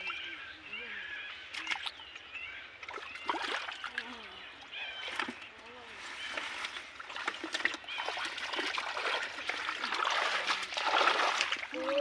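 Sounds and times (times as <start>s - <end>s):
muddy water splashing: 1.4s - 12.0s.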